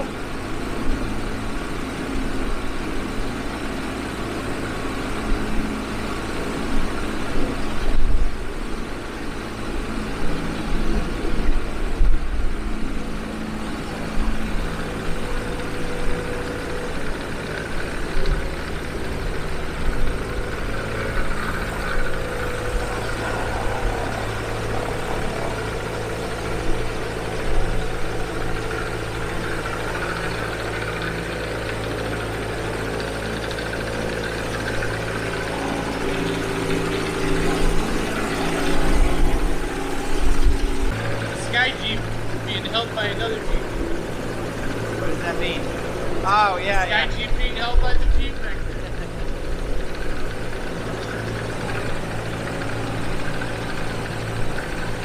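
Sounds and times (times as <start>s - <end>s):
aircraft engine idling: 0.0s - 55.0s.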